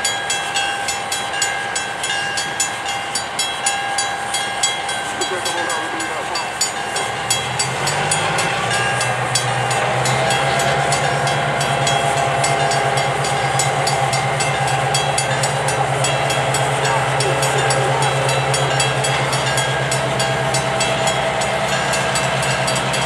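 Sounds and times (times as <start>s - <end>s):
crossing bell ringing: 0.0s - 23.0s
diesel locomotive engine: 0.0s - 23.0s.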